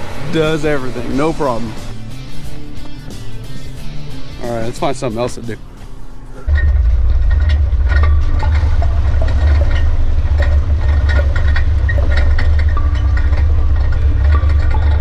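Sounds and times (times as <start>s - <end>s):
suv engine rumbling: 0.0s - 15.0s.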